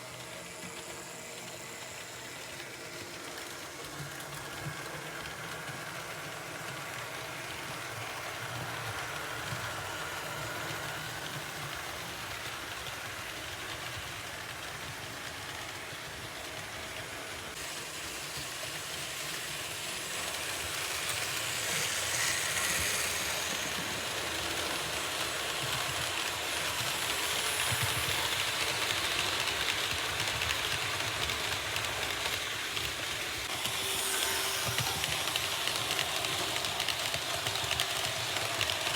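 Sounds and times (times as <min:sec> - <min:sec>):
model train rolling on track: 0:00.0 - 0:38.9.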